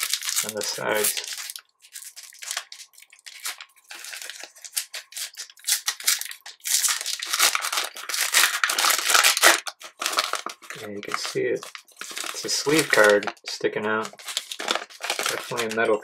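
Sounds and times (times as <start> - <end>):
foil wrapper tearing and crinkling: 0.0 - 16.0.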